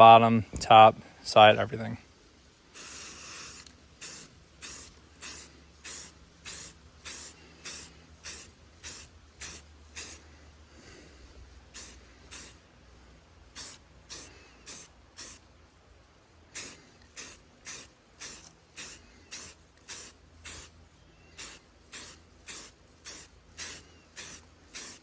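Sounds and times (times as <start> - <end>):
spray paint hissing in bursts: 2.2 - 25.0.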